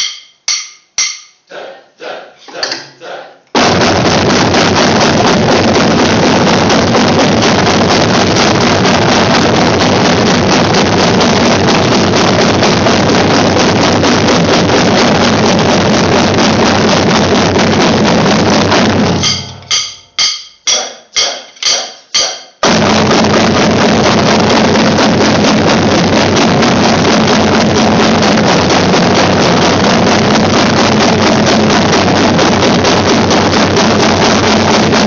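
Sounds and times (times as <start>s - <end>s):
accented drum hits ringing: 0.0s - 1.4s, 3.6s - 31.0s
drumline playing rapid strokes: 3.5s - 35.0s.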